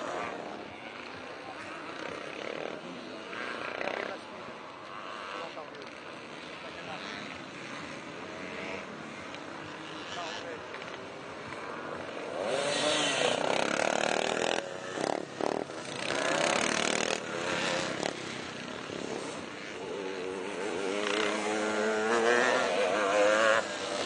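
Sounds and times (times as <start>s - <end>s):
motocross motorcycles revving: 0.0s - 24.0s.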